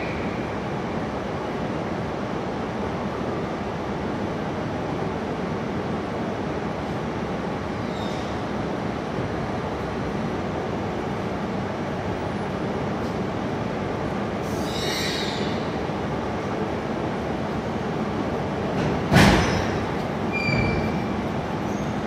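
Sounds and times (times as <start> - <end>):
train rolling rumble: 0.0 - 22.0.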